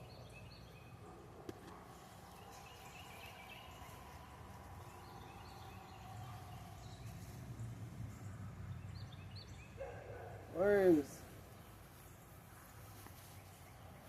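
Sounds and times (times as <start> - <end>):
faint birds calling: 0.0 - 14.0.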